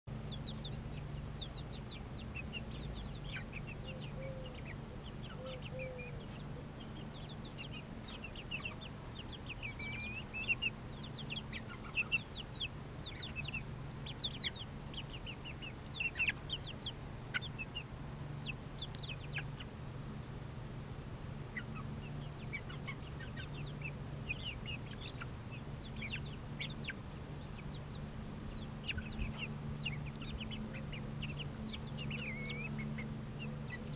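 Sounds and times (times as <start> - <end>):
steady low hum: 0.0 - 33.9
chicks peeping: 0.1 - 33.9.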